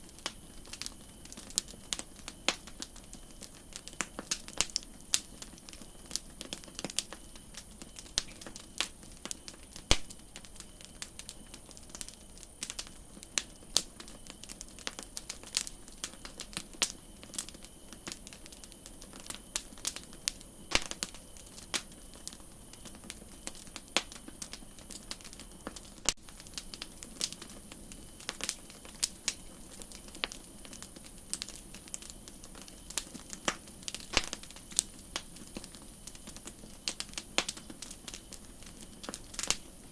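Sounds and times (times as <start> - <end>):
campfire crackling pops: 0.0 - 39.9
soft steady hiss: 0.0 - 39.9.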